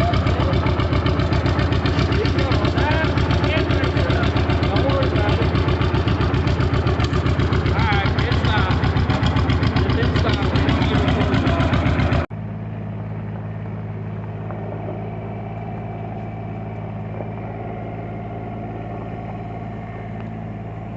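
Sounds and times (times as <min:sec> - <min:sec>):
engine idling: 0:00.0 - 0:20.9
tractor engine pulsing: 0:00.0 - 0:20.9.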